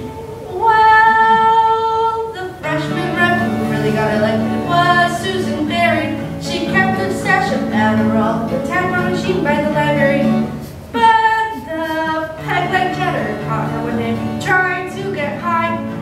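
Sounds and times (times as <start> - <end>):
acoustic guitar chords: 0.0 - 16.0
young woman singing: 0.0 - 16.0.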